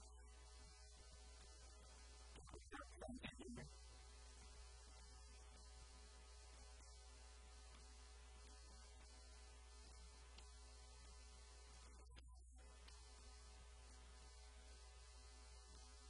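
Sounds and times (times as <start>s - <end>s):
low electrical mains hum: 0.0s - 16.0s.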